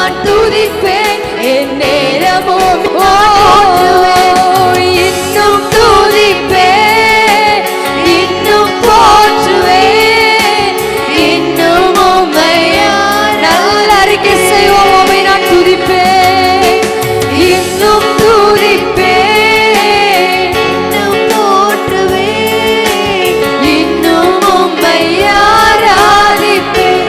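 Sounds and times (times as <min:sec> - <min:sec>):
instrumental accompaniment: 0:00.0 - 0:27.0
person singing worship song: 0:00.0 - 0:27.0.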